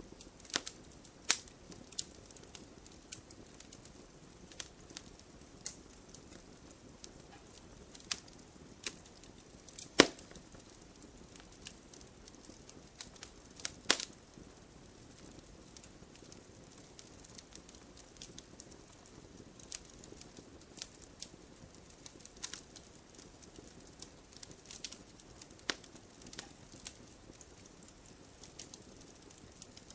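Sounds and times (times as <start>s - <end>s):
soft low hiss: 0.0s - 29.9s
wood fire crackling and popping: 0.0s - 29.9s.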